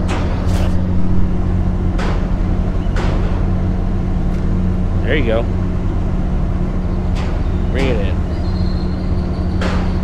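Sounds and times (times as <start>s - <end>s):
large engine idling: 0.0s - 10.0s.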